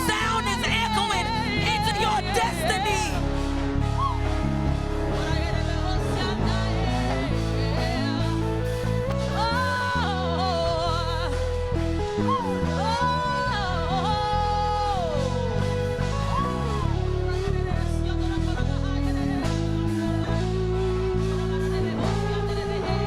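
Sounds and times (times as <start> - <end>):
person singing long wavering notes: 0.0 - 23.0
steady bass: 0.0 - 23.0
sustained chords: 0.0 - 23.0.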